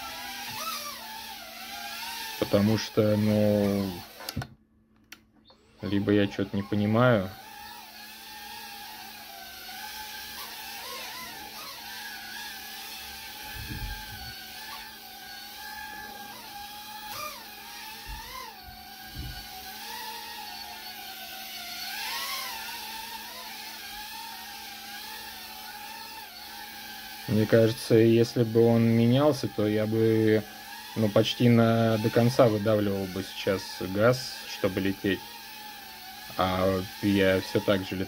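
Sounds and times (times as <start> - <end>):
quadcopter motors whining: 0.0 - 4.5, 5.5 - 38.0.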